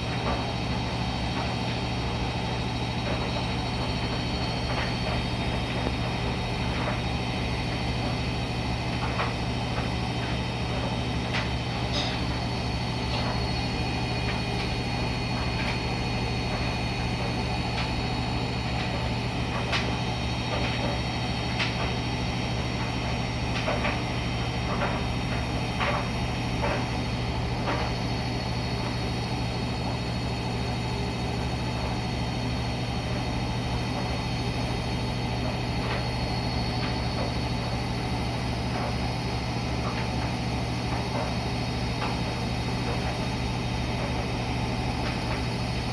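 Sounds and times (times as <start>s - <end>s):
washing machine humming: 0.0s - 45.9s.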